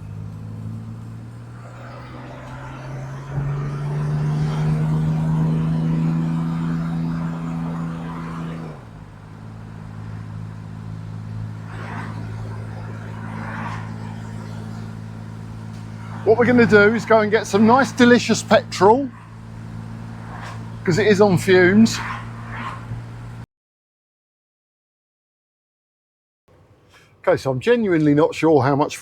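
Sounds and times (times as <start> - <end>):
car engine running: 0.0 - 23.4.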